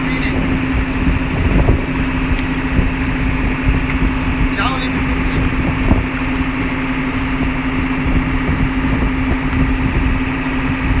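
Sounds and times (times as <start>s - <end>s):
machinery droning: 0.0s - 11.0s.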